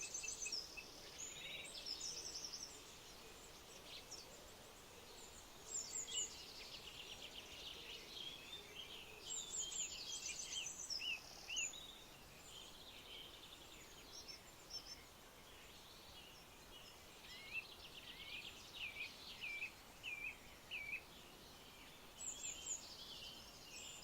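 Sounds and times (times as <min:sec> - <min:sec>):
songbirds chirping: 0:00.0 - 0:24.0
steady background hiss: 0:00.0 - 0:24.0.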